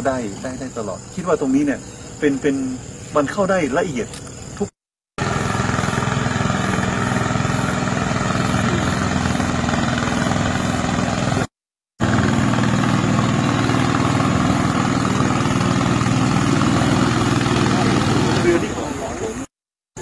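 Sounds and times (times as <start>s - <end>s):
boat engine droning: 0.0s - 19.5s.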